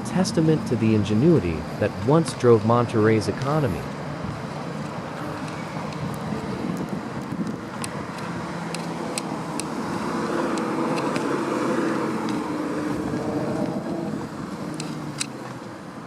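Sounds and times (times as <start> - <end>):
motor vehicle passing: 0.0 - 15.8.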